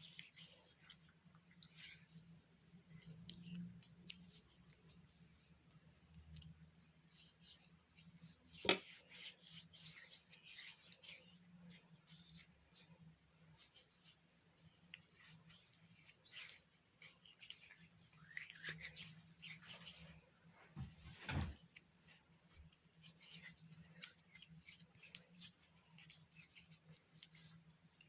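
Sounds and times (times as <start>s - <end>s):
hands scrubbing gritty paste on skin: 0.0s - 5.5s, 6.4s - 14.2s, 14.9s - 20.1s, 22.1s - 28.0s.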